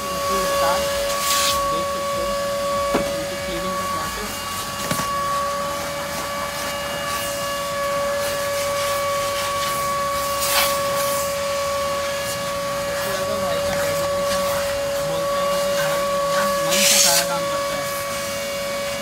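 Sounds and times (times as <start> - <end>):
vacuum cleaner running: 0.0 - 19.0
vacuum hose hiss: 0.0 - 19.0.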